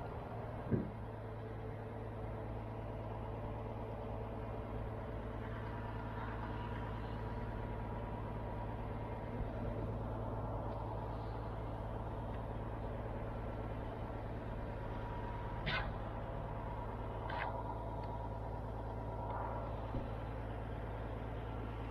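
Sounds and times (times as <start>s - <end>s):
crane engine droning: 0.0s - 21.9s.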